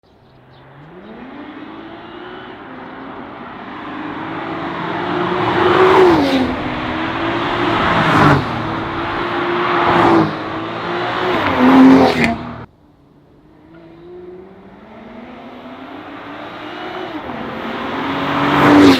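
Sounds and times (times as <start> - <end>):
car engine accelerating hard: 0.6 - 12.7, 13.8 - 18.9.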